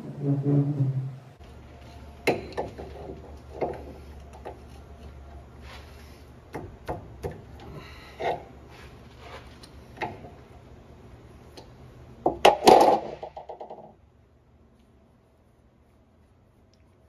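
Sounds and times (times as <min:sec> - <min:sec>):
steady low hum: 0:00.0 - 0:13.1, 0:13.9 - 0:17.0.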